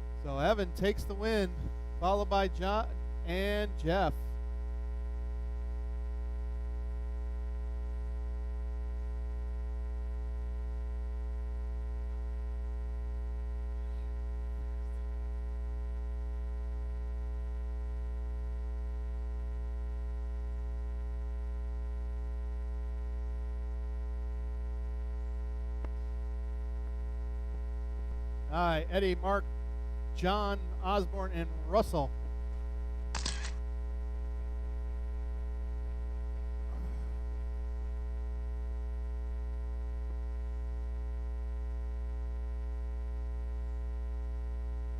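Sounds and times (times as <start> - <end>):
electrical mains hum: 0.0 - 44.9.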